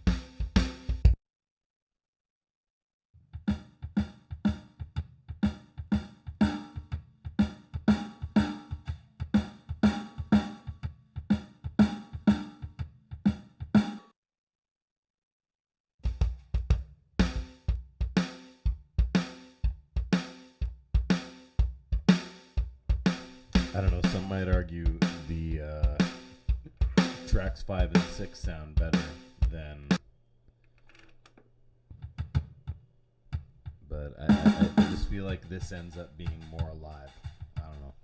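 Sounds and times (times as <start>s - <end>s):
drum kit beat: 0.0s - 1.2s, 3.4s - 14.1s, 16.0s - 30.0s, 32.0s - 32.8s, 33.4s - 38.0s.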